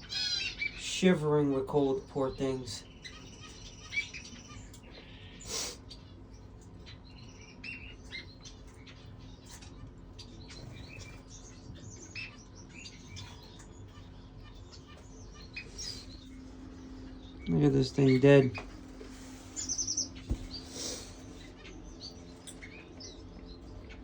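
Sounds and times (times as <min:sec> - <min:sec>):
birds chirping: 0:00.0 - 0:24.0
faint low hum: 0:00.0 - 0:24.0.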